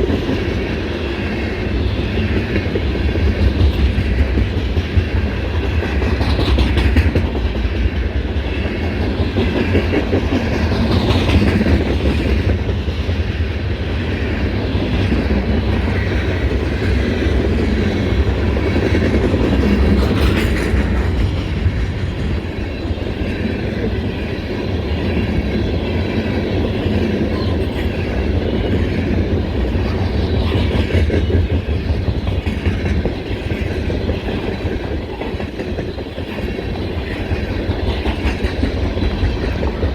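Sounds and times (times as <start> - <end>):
train cars rumbling: 0.0 - 39.9
wheels clattering on rails: 2.1 - 12.8, 14.8 - 39.9.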